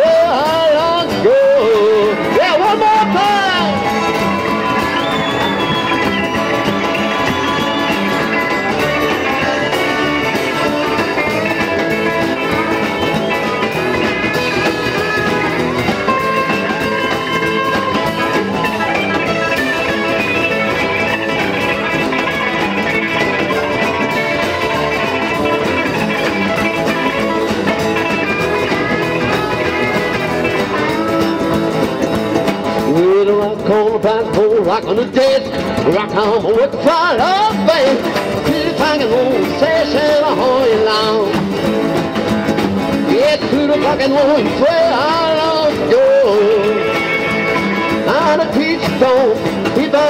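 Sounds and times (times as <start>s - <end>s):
lead guitar lines: 0.0s - 50.0s
strummed acoustic rhythm guitar: 0.0s - 50.0s.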